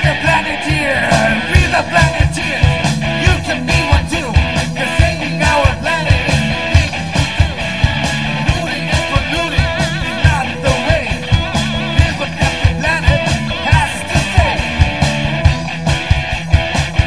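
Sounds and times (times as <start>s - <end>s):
wavering lead melody: 0.0s - 16.8s
live rock band playing: 0.0s - 17.0s.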